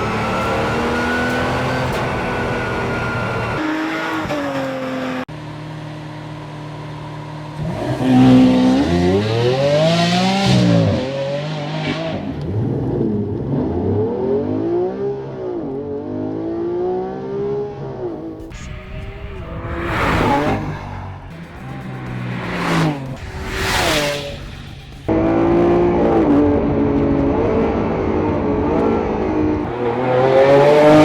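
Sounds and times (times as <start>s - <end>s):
sports car engine revving: 0.0s - 31.0s.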